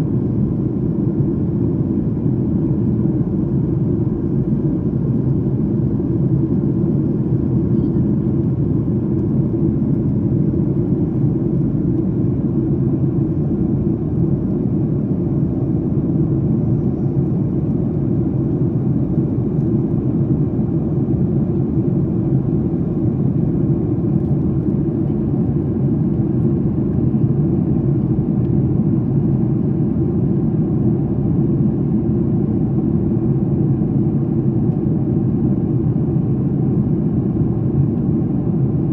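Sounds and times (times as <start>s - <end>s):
airliner cabin engine drone: 0.0s - 38.9s.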